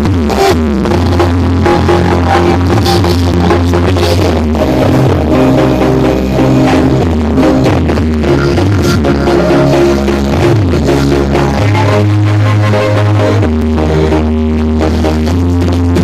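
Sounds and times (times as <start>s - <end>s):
loud bass-heavy music: 0.0s - 16.0s.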